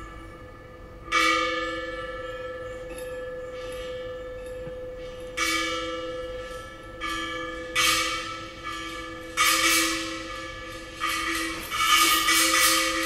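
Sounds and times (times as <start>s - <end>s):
bell-like metal percussion strikes: 0.0s - 13.0s.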